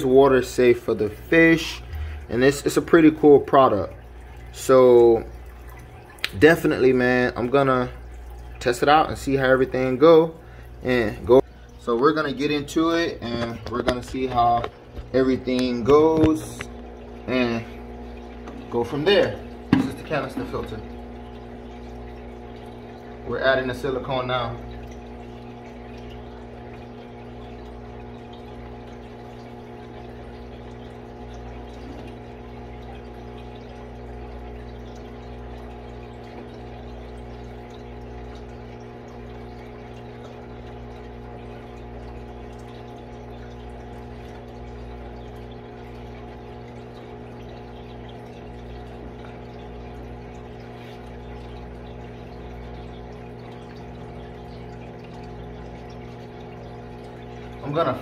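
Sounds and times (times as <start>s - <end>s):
faint water trickle: 0.0s - 58.0s
water pump humming: 0.0s - 58.0s.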